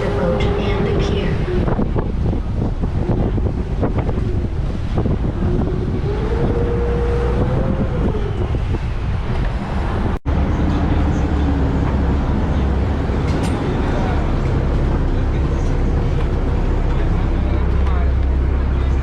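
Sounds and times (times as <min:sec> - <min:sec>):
boat engine low rumble: 0:00.0 - 0:19.0
wind buffeting microphone: 0:00.0 - 0:19.0.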